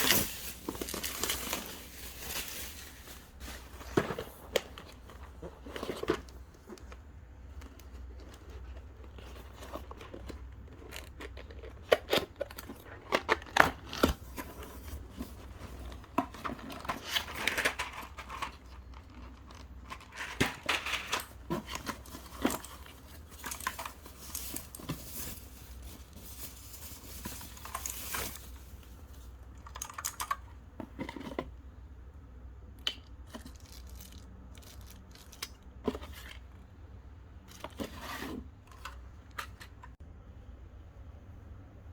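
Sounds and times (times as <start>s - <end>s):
plastic and paper crinkling: 0.0s - 30.4s, 33.3s - 36.4s.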